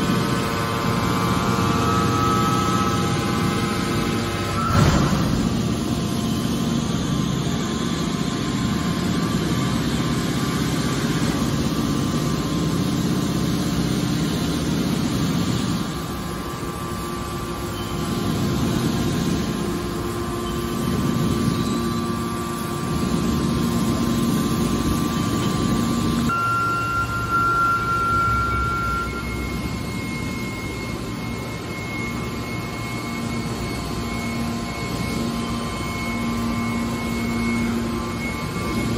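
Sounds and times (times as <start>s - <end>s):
baler machine drone: 0.0s - 38.9s
high machine whine: 0.0s - 38.9s.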